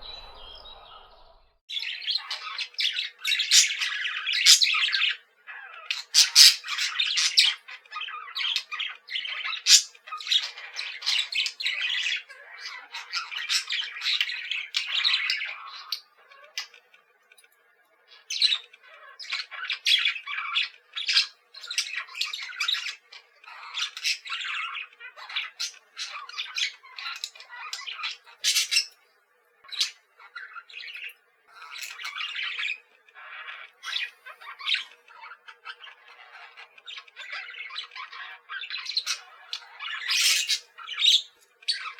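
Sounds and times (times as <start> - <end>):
parakeets chattering: 0.0 - 17.1, 18.0 - 29.0, 29.6 - 41.9.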